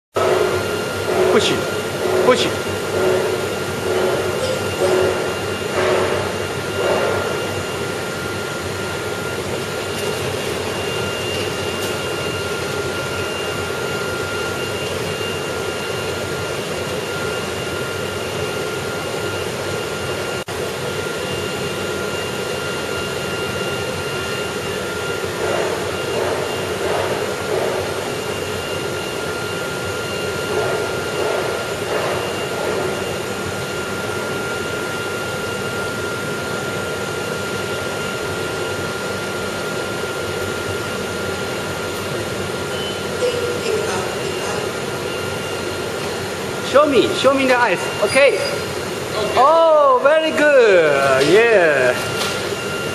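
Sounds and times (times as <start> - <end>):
constant high whine: 0.2 - 52.9
machine mechanical hum: 0.2 - 52.9.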